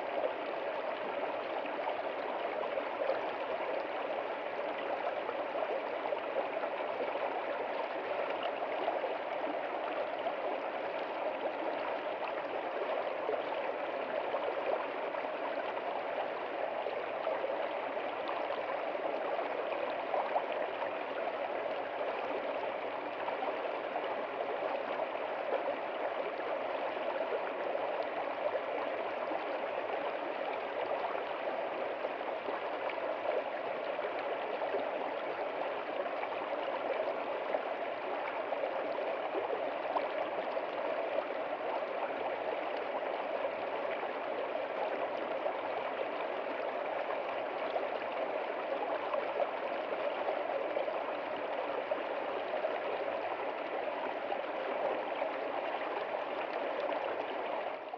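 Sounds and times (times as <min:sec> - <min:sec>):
stream running over rocks: 0:00.0 - 0:57.9.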